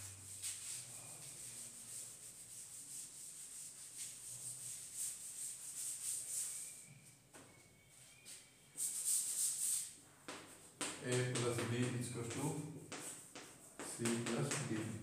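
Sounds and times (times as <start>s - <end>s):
cloth rubbing on chalkboard: 0.0s - 7.2s, 8.3s - 15.0s.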